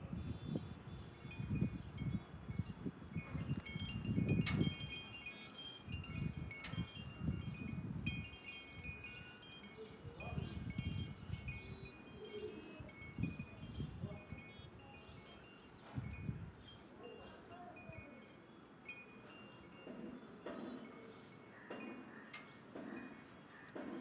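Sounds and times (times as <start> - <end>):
wind chimes tinkling: 0.9 - 23.6.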